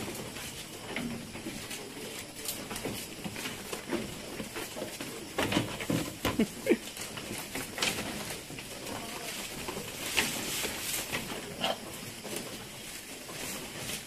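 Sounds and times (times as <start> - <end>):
goats chewing: 0.0 - 14.0
leaves rustling: 0.0 - 14.0.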